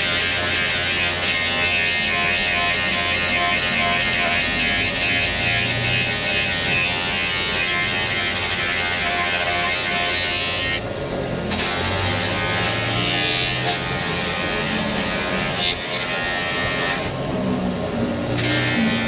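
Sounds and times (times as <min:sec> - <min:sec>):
small electric motor buzzing: 0:00.0 - 0:19.0.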